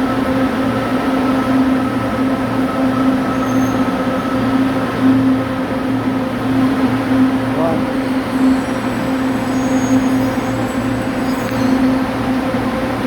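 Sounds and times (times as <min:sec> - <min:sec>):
electric train running: 0:00.1 - 0:13.0.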